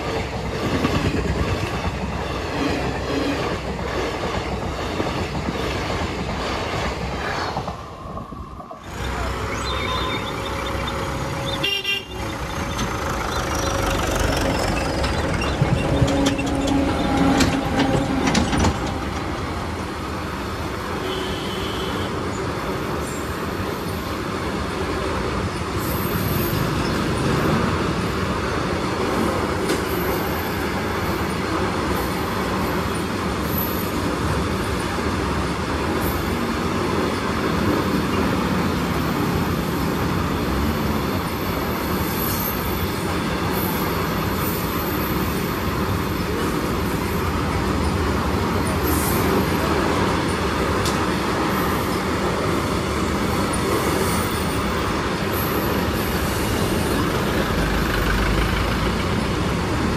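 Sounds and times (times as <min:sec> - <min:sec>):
train wheels on rails and bridge: 0:00.0 - 0:59.9.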